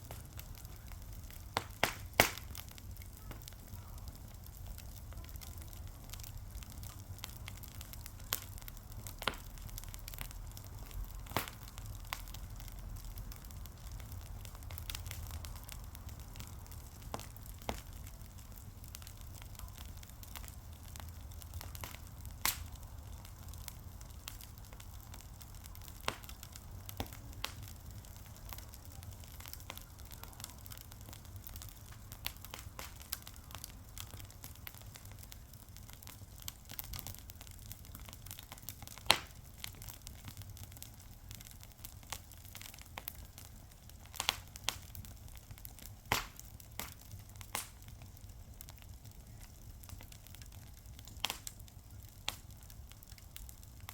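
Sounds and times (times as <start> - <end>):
fire popping and snapping: 0.0 - 53.9
wood fire crackling: 0.0 - 53.9.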